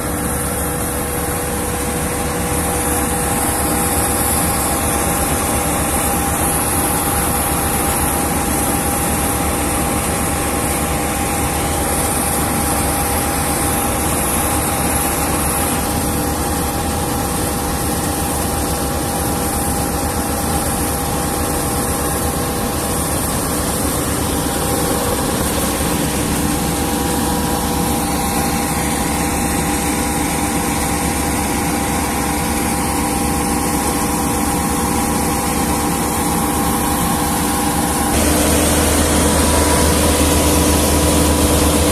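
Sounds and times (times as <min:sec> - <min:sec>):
combine harvester droning: 0:00.0 - 0:41.9.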